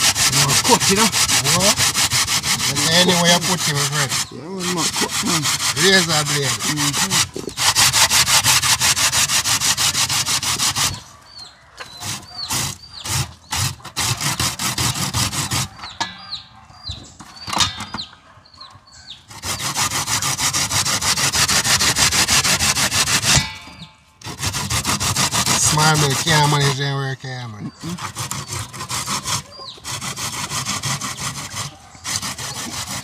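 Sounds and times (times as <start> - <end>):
vegetables grated by hand: 0.0 - 11.0, 12.0 - 15.8, 19.4 - 23.5, 24.2 - 26.8, 27.8 - 33.0.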